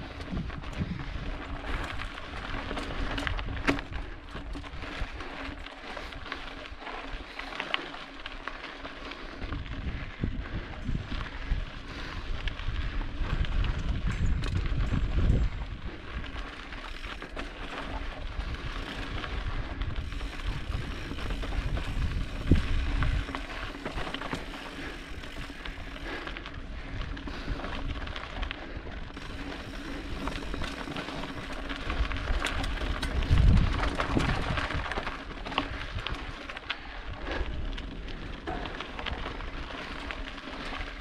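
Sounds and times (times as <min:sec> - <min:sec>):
bike rattling: 0:00.0 - 0:41.0
bike tyres crunching on gravel: 0:00.0 - 0:41.0.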